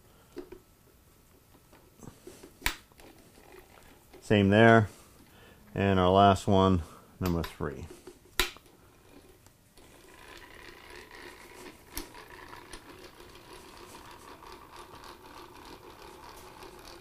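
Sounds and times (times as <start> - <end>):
faint mechanical whirring: 0.1 - 17.0.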